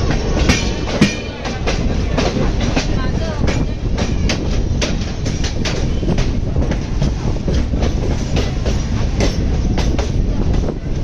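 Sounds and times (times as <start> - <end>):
train low rumble: 0.0 - 11.0
train wheels clicking over rail joints: 0.0 - 11.0.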